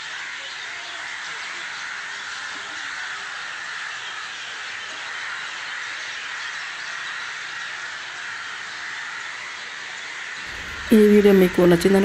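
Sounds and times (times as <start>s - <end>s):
chorus of birds calling: 0.0s - 12.0s.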